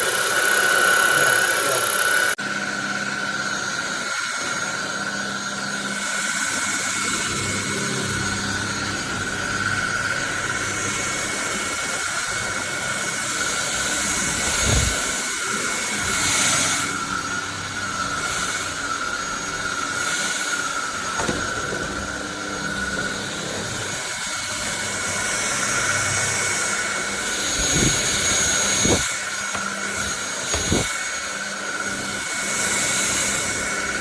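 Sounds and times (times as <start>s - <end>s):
stick vacuum cleaner running: 0.0s - 34.0s.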